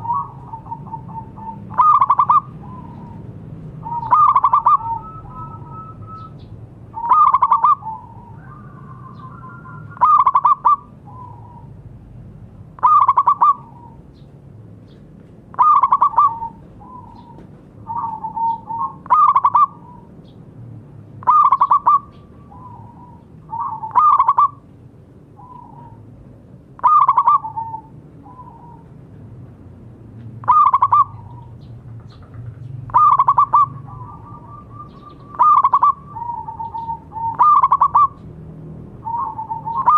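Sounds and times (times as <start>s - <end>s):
dove cooing: 0.0s - 11.8s, 12.8s - 14.1s, 15.5s - 20.2s, 21.2s - 24.7s, 25.3s - 26.1s, 26.8s - 29.0s, 30.4s - 32.2s, 32.9s - 38.4s, 39.0s - 39.9s.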